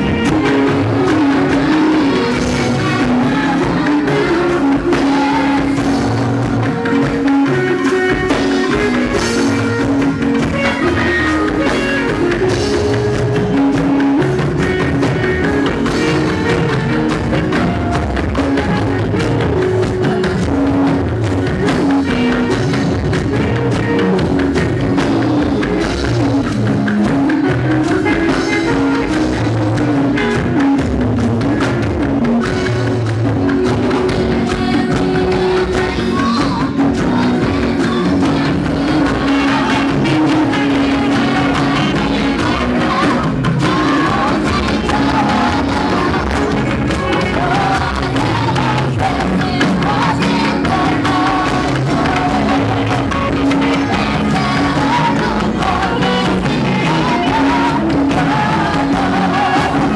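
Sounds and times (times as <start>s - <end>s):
band music with drums and guitar: 0.0s - 59.9s.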